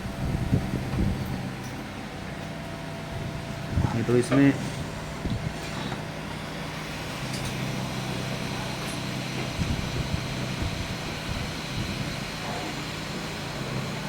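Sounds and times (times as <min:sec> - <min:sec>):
electric fan motor hum: 0:00.0 - 0:14.0.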